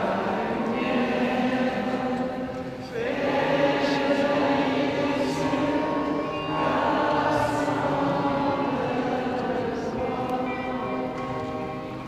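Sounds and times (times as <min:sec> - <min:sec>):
congregation singing: 0:00.0 - 0:12.0.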